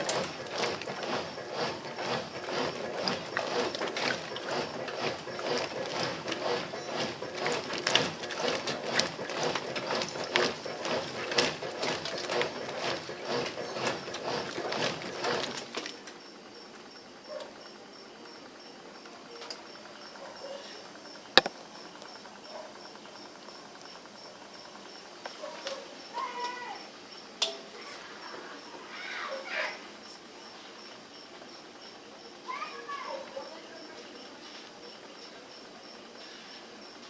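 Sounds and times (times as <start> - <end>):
washing machine agitating: 0.0 - 37.0.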